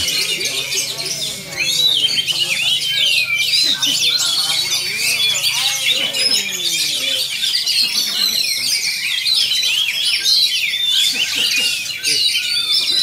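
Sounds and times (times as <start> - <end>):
songbirds chirping and whistling: 0.0 - 13.0
voices: 0.0 - 13.0.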